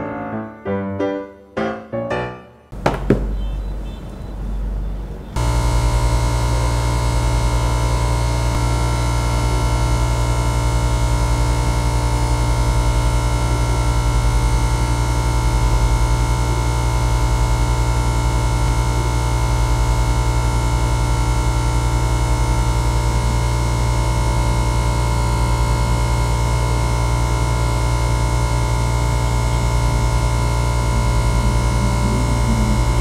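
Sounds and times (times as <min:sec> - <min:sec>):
cooling fan: 0:03.7 - 0:33.0
electric air pump buzzing hum: 0:05.4 - 0:33.0.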